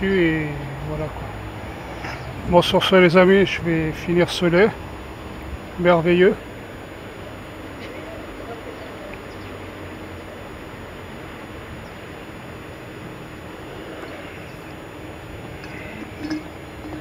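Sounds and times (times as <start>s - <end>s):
outdoor background hiss and rumble: 0.0s - 17.0s.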